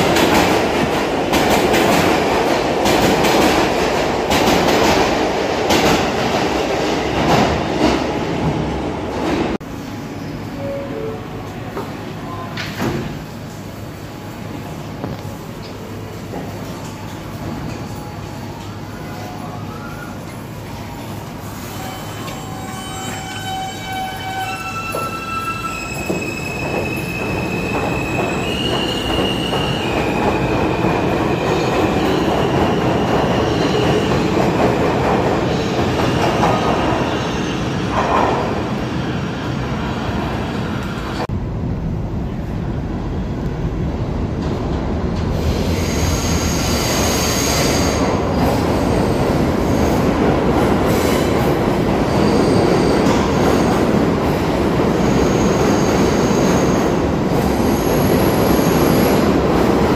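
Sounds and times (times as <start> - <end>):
train wheels rumbling on rail: 0.0 - 9.7, 20.6 - 59.9.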